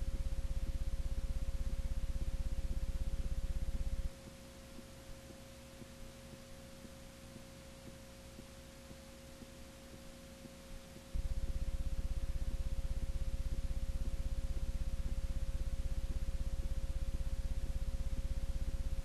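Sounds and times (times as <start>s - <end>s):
faint high tone and hiss: 0.0s - 19.0s
low pulsing electrical buzz: 0.0s - 19.0s.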